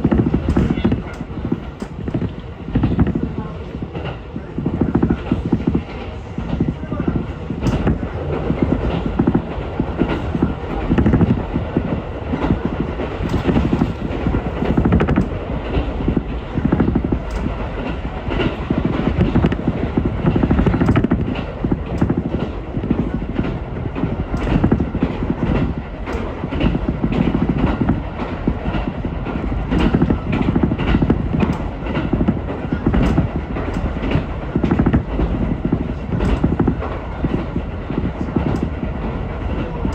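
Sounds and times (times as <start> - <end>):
track clicks and knocks: 0.0 - 39.9
train wheels rumbling on rail: 0.0 - 39.9.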